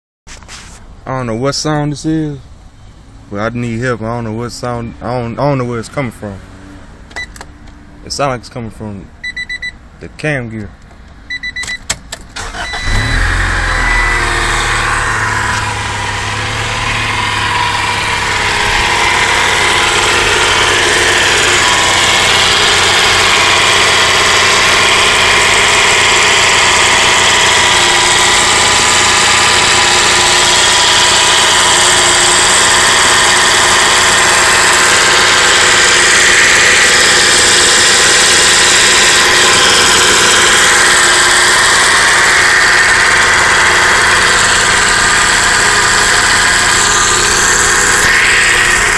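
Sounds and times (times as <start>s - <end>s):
car engine starting and running: 5.6s - 8.2s, 10.6s - 48.9s.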